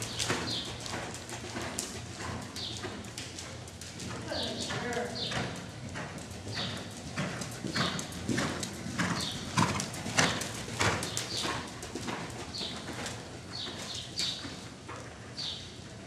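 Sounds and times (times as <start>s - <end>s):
horse hoofbeats cantering: 0.0s - 16.0s.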